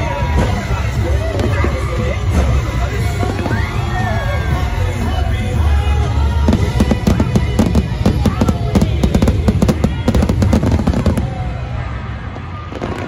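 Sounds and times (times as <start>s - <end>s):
fireworks bangs and crackles: 0.0s - 13.0s
music soundtrack: 0.0s - 13.0s.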